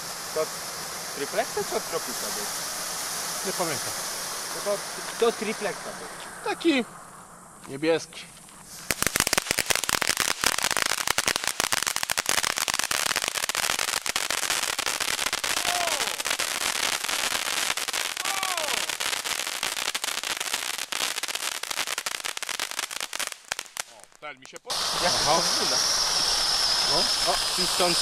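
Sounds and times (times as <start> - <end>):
falling firework whistles: 0.0 - 24.0, 24.7 - 28.0
firework fountain crackling: 0.0 - 28.0.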